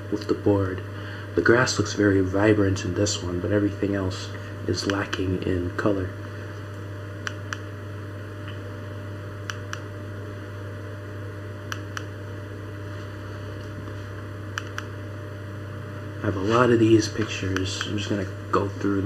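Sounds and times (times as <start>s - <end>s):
steady low hum and hiss: 0.0s - 19.0s.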